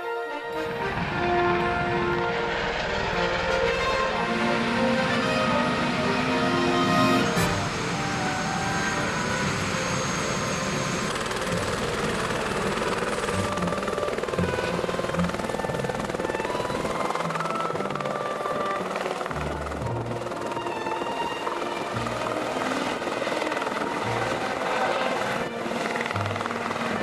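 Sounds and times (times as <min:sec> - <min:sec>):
helicopter engine and rotor running: 0:00.5 - 0:27.0.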